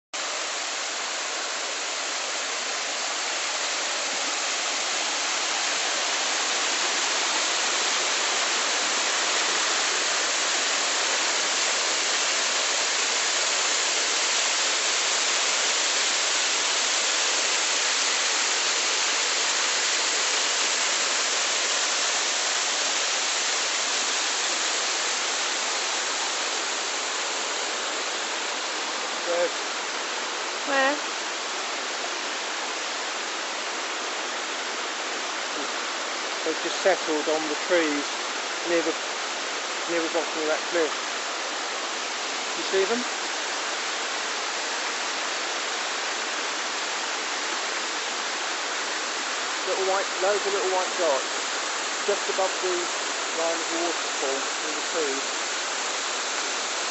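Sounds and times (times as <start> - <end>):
waterfall rushing: 0.2 - 56.9.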